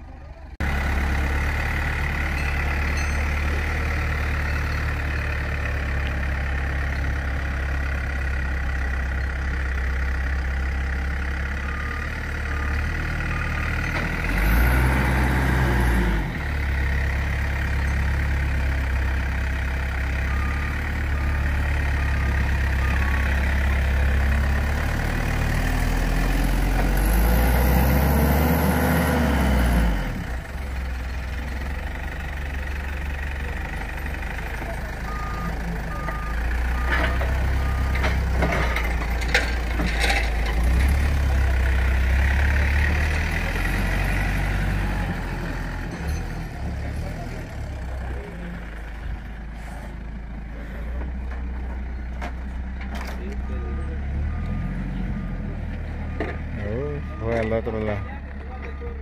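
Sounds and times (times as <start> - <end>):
heavy vehicle engine idling and revving: 0.0 - 59.0.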